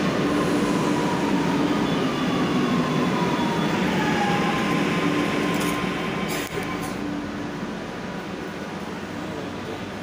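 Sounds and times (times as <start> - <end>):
train rolling with electric whine: 0.0 - 10.0.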